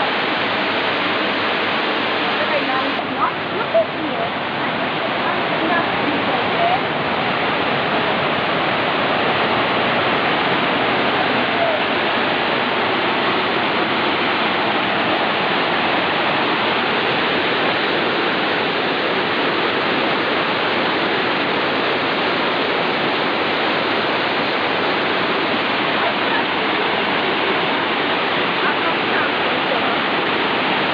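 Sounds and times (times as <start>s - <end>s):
water rushing over rocks: 0.0s - 30.9s.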